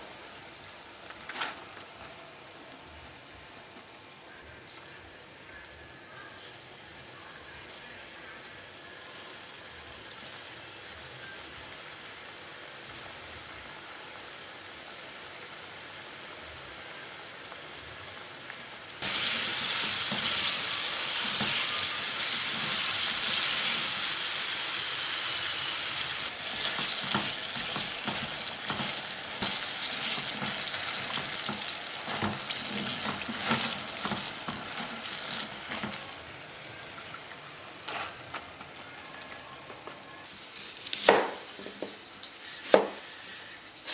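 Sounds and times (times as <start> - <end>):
chicken frying in hot oil: 0.0 - 3.1, 4.7 - 43.9.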